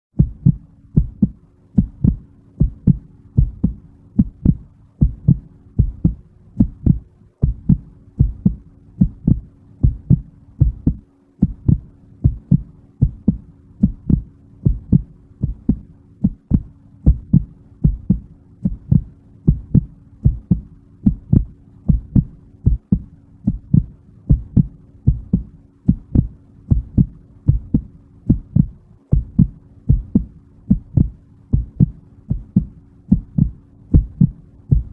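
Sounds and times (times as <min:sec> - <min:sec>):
faint steady hum: 0:00.1 - 0:34.9
heartbeat thumps: 0:00.2 - 0:34.9.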